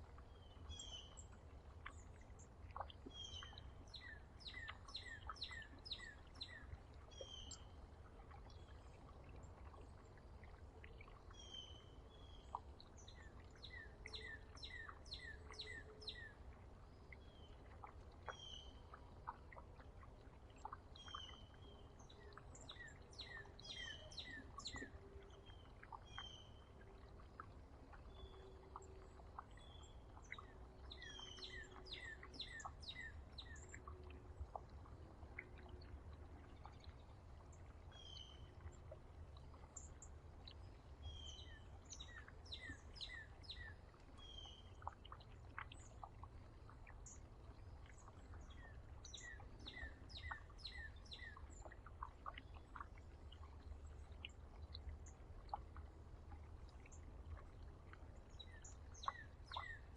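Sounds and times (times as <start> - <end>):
small songbirds chirping: 0.0 - 59.9.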